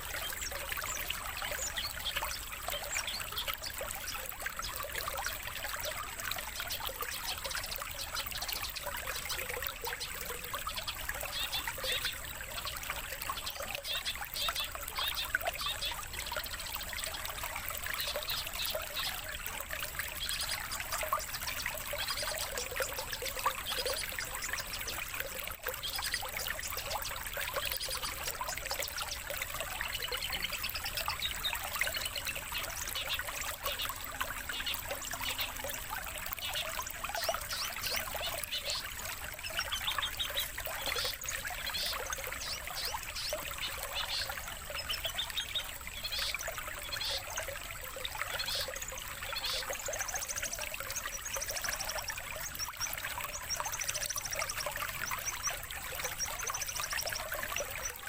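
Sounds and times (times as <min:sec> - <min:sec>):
running water: 0:00.0 - 0:58.0
songbird chirps and trills: 0:00.0 - 0:58.0.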